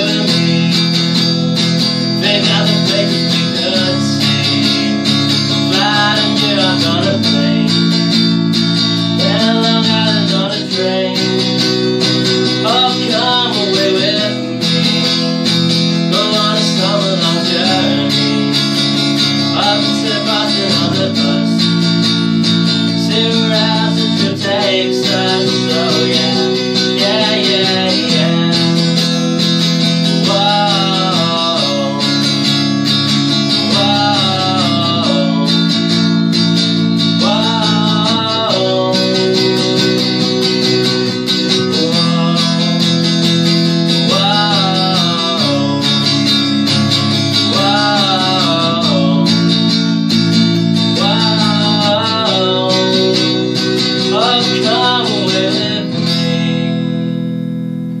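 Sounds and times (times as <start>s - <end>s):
man singing: 0.0s - 8.4s, 9.0s - 57.1s
electric guitar chords: 0.0s - 58.0s.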